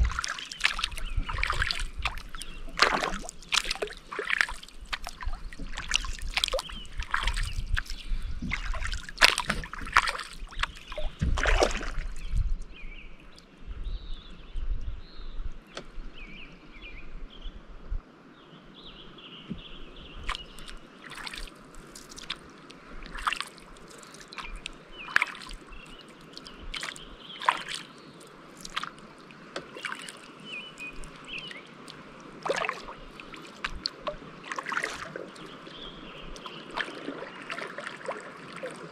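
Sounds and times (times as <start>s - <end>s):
paddle splashing in water: 0.0s - 12.4s, 19.5s - 38.9s.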